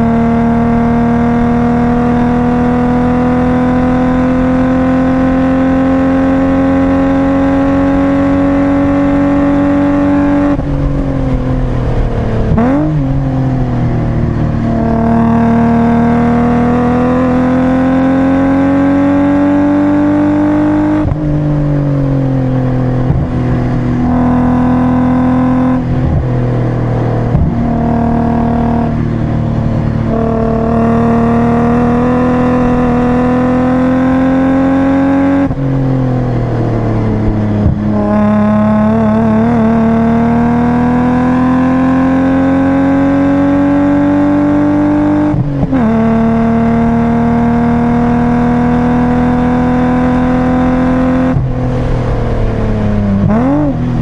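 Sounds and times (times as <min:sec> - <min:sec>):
car engine running hard: 0:00.0 - 0:54.0.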